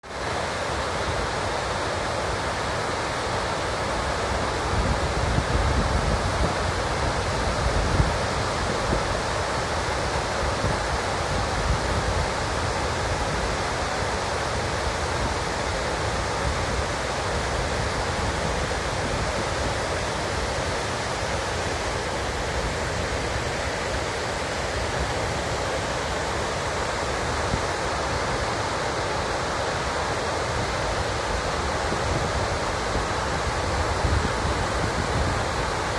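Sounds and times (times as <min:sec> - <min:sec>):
water rushing over spillway: 0:00.0 - 0:35.9.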